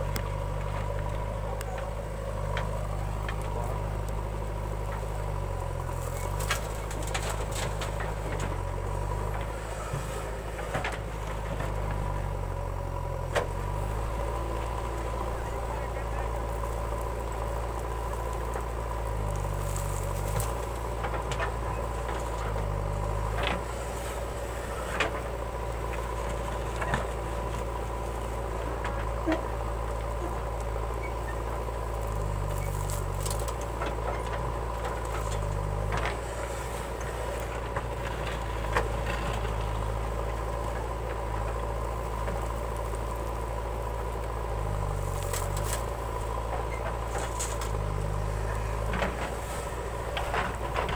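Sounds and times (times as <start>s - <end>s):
diesel engine running with whine: 0.0s - 50.9s.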